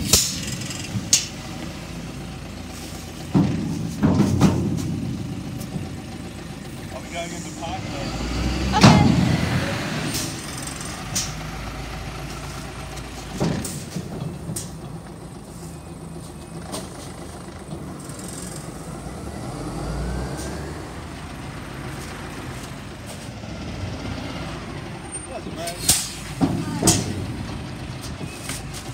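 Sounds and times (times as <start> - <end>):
truck engine running: 0.0 - 28.9.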